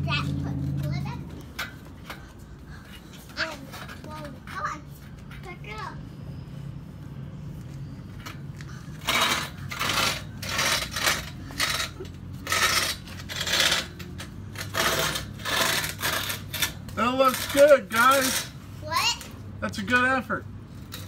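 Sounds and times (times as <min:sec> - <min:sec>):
metal pipes scraping on concrete: 0:00.2 - 0:06.7, 0:07.8 - 0:19.3.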